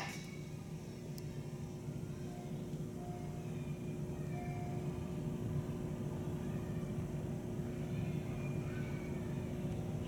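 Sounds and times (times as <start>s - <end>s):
constant hum: 0.0s - 10.0s.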